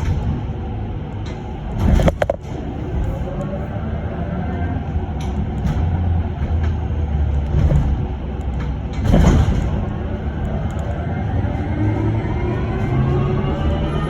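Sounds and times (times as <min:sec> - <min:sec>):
bus jolt rattle: 0:00.0 - 0:03.7, 0:04.8 - 0:14.0
bus road and tyre rumble: 0:00.0 - 0:14.0.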